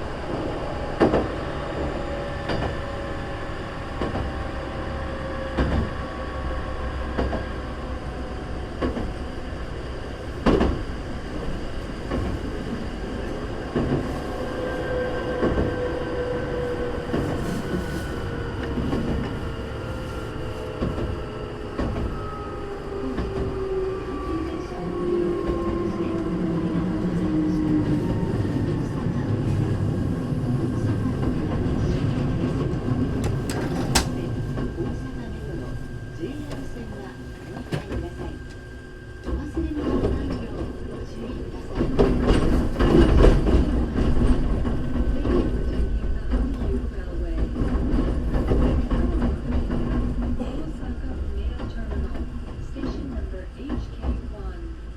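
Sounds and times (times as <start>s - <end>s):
train low rumble: 0.0s - 54.9s.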